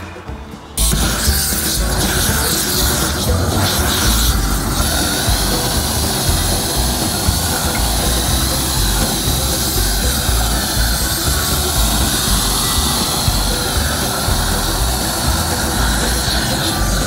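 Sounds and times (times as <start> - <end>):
propane flame jet: 0.8 - 17.0.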